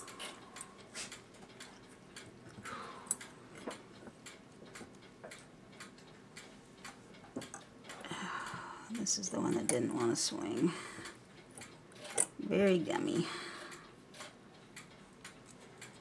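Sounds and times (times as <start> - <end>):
metallic clicks of clock parts: 0.0 - 16.0.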